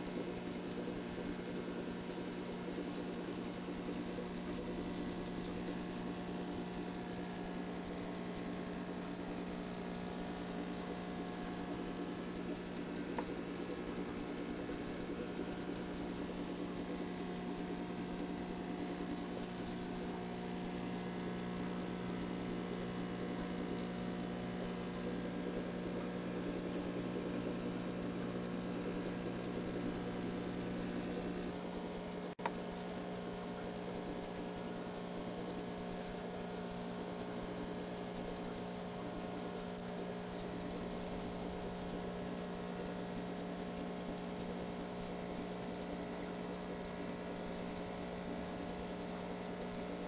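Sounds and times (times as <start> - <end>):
aquarium air pump hum: 0.0 - 50.0
bubbling filters: 0.0 - 50.0.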